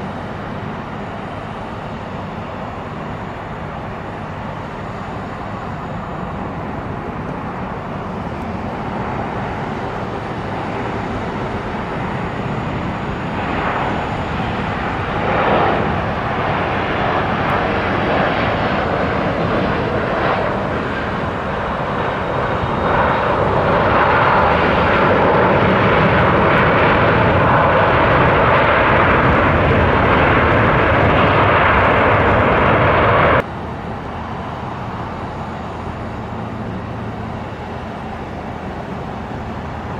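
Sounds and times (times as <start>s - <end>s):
airliner engines running: 0.0s - 39.9s
steady engine whine: 0.0s - 39.9s.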